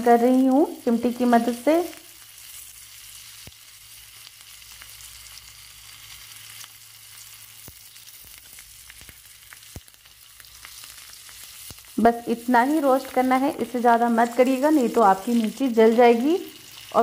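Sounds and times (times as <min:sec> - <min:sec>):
chillies sizzling in oil: 0:00.0 - 0:17.0.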